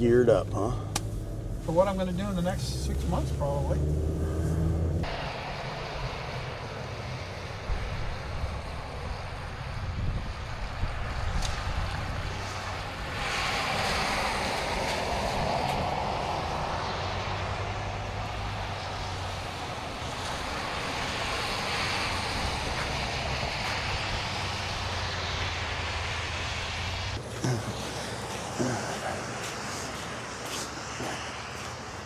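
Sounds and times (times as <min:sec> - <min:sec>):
low engine drone: 0:00.0 - 0:32.0
road and wind noise: 0:00.0 - 0:32.0.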